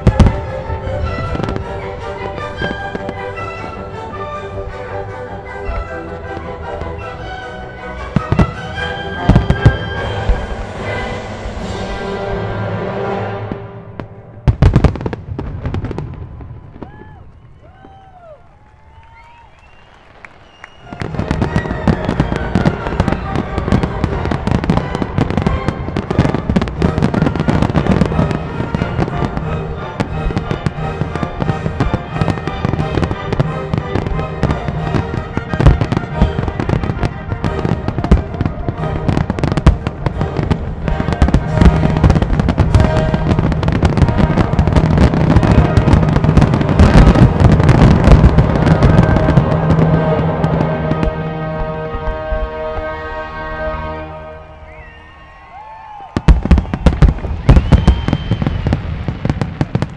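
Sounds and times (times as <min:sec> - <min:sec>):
music: 0:00.0 - 0:16.9, 0:18.8 - 0:59.6
fireworks bursting: 0:00.0 - 0:59.9.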